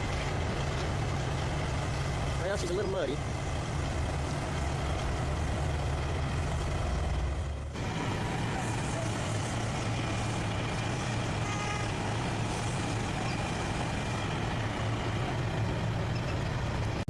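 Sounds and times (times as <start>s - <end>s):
truck engine humming: 0.0s - 17.0s.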